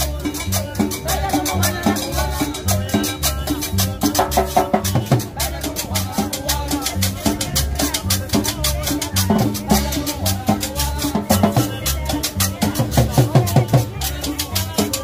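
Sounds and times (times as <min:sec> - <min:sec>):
latin dance band playing: 0:00.0 - 0:15.0
shaker: 0:00.0 - 0:15.0.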